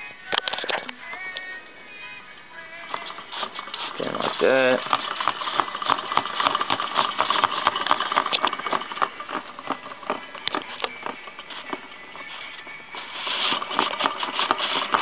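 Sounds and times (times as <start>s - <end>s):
impeller turning: 2.9s - 15.0s.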